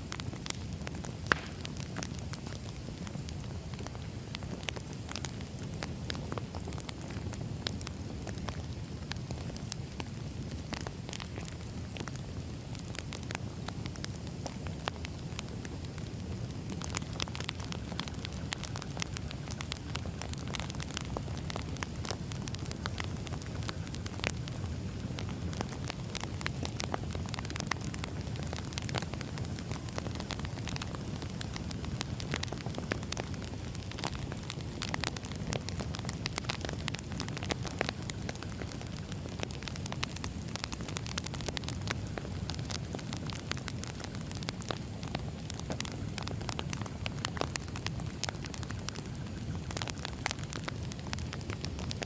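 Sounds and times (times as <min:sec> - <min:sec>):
firewood crackling: 0:00.0 - 0:52.0.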